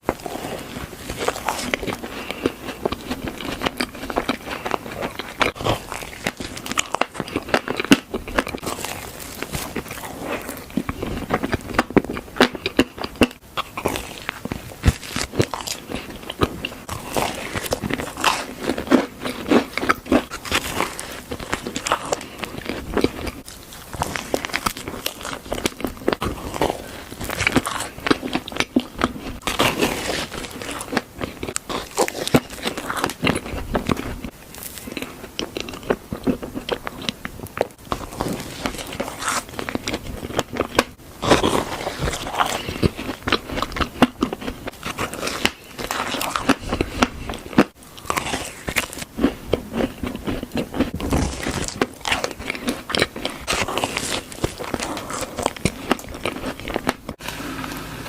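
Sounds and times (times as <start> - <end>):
chewing crunchy food: 0.0 - 58.0.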